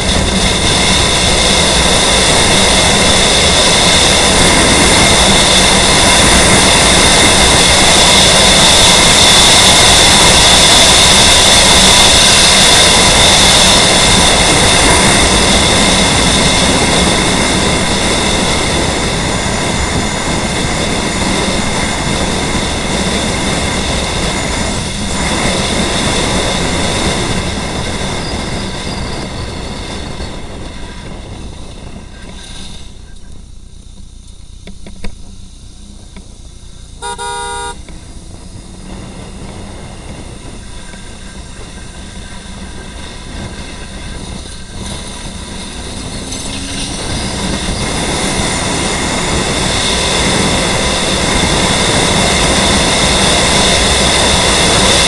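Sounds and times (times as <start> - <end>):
steady high whine: 0.0 - 55.0
wind and road noise: 0.0 - 55.0.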